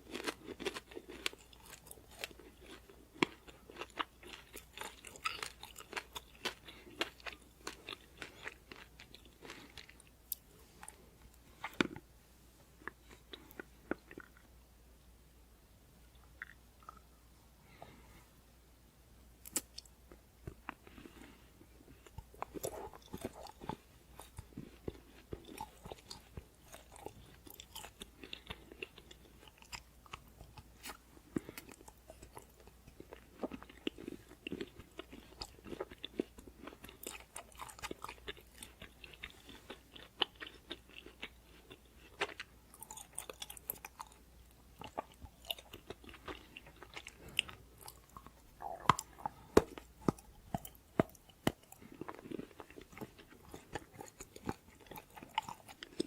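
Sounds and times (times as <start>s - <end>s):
person chewing crunchy food: 0.0s - 12.1s, 12.8s - 14.6s, 16.2s - 17.1s, 19.4s - 56.0s.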